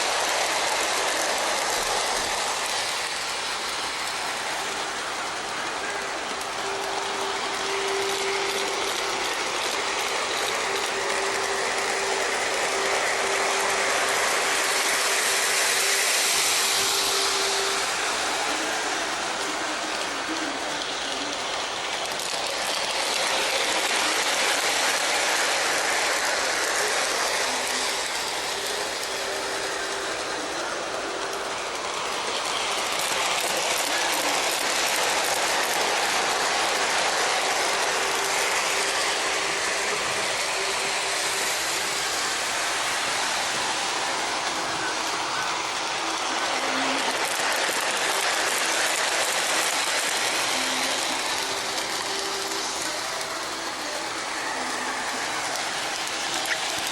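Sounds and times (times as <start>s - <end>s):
faint motor whine: 0.0s - 56.9s
model train wheels clattering: 0.0s - 56.9s.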